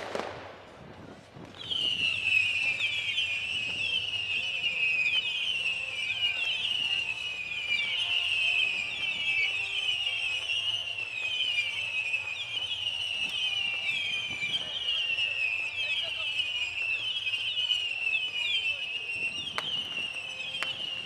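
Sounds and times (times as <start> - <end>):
whistling fireworks: 0.0 - 21.0.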